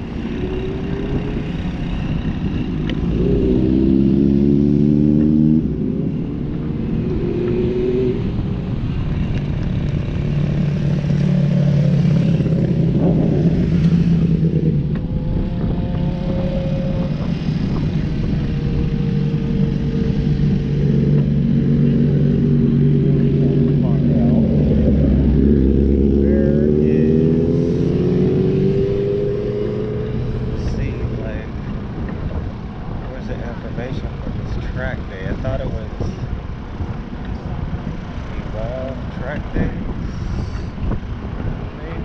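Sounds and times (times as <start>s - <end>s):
constant low rumble: 0.0s - 28.9s, 29.6s - 42.0s
motorcycle engine running: 0.0s - 42.0s.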